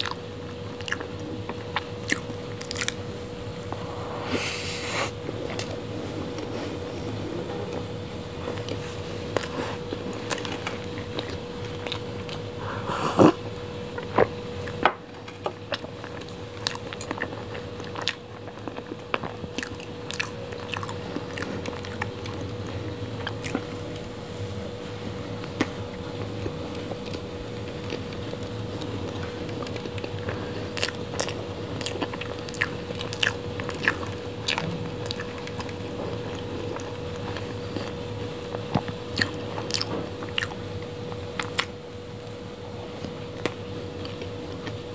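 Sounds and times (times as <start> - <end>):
biting and chewing cake: 0.0 - 44.9
faint steady hum: 0.0 - 44.9.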